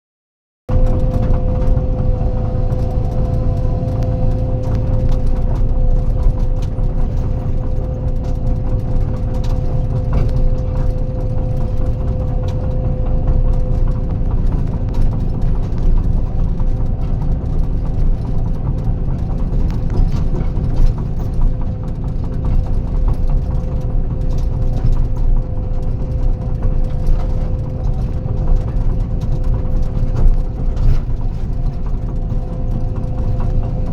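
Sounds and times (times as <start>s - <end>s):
diesel engine drone: 0.7s - 33.9s.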